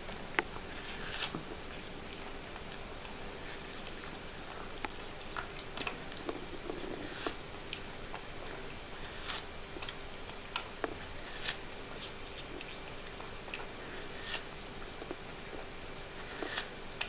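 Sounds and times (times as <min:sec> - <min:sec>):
cat chewing and licking: 0:00.0 - 0:17.0
faint hum: 0:00.0 - 0:17.0.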